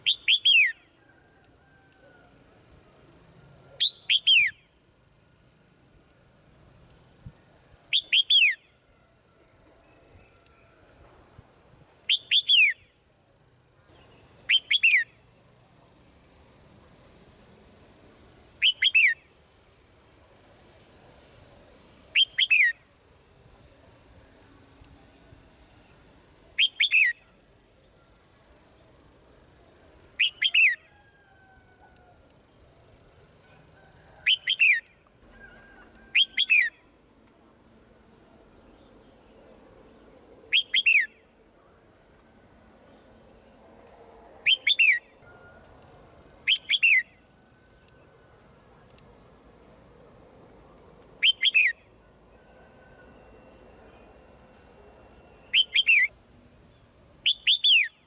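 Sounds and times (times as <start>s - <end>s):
faint high hiss: 0.0s - 58.0s.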